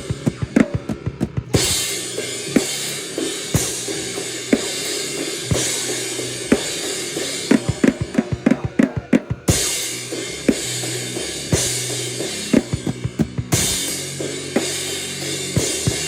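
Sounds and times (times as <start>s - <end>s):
drum hits: 0.0s - 9.8s, 10.4s - 16.0s
hissing cymbal wash: 1.5s - 8.4s, 9.5s - 16.0s.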